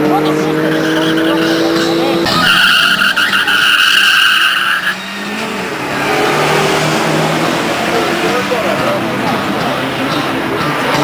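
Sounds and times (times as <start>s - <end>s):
car tyres squealing: 0.0s - 11.0s
engine running: 0.0s - 11.0s.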